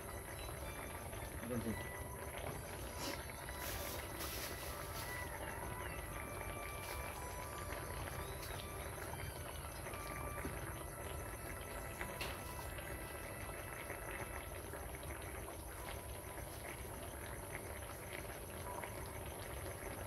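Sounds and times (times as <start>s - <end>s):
soup bubbling in a wok: 0.0s - 20.0s.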